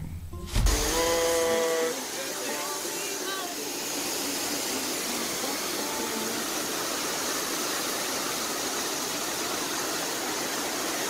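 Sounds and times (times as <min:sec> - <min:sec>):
waterfall rushing: 0:00.7 - 0:11.0.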